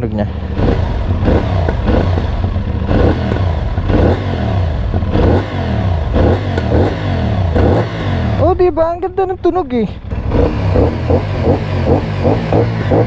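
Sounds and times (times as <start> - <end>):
motorcycle engine revving: 0.0 - 8.8, 9.9 - 13.0.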